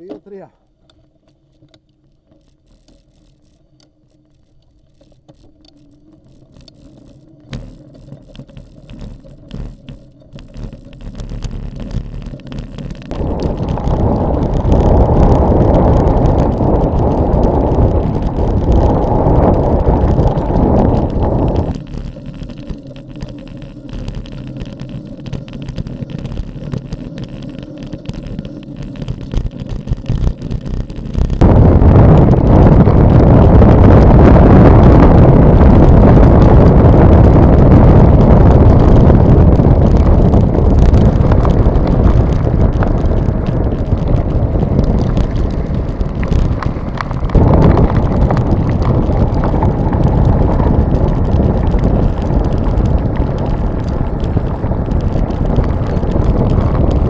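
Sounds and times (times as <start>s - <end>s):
bike rattling over bumps: 0.0s - 57.0s
tyres and wind rushing: 10.7s - 57.0s.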